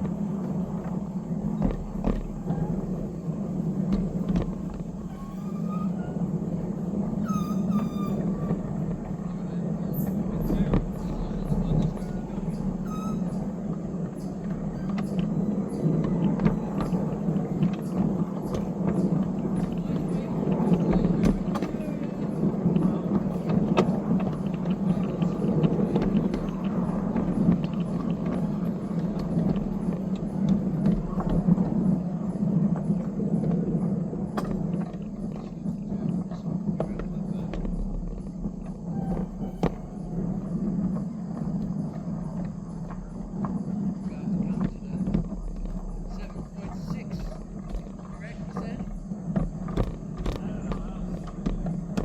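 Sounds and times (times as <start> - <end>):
train engine drone: 0.0 - 52.0.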